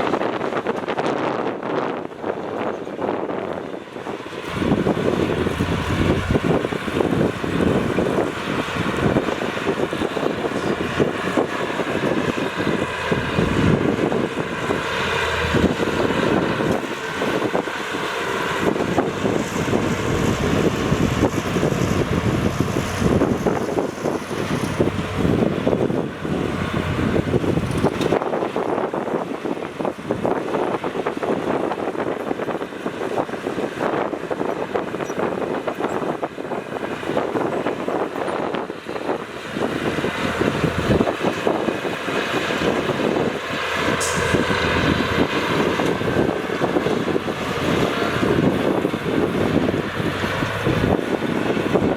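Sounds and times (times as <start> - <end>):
heavy diesel machinery running: 0.0 - 51.9
wind buffeting microphone: 0.0 - 51.9.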